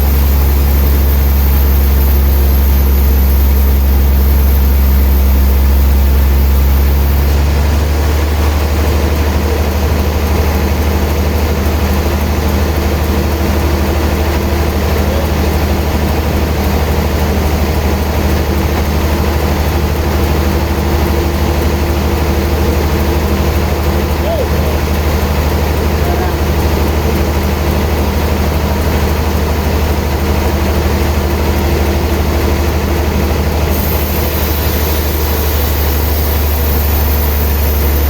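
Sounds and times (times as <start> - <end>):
sawmill machinery drone: 0.0 - 38.0.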